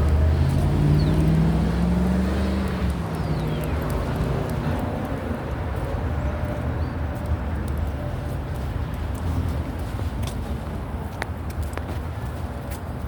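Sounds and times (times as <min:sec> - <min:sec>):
car engine hum passing: 0:00.0 - 0:11.0
tyre noise on wet road: 0:00.0 - 0:13.0.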